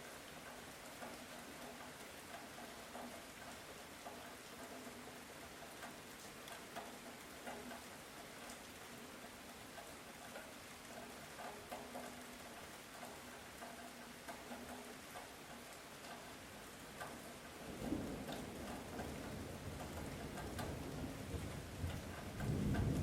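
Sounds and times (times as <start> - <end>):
light rain falling: 0.0 - 23.0
raindrops pattering on leaves: 0.0 - 23.0.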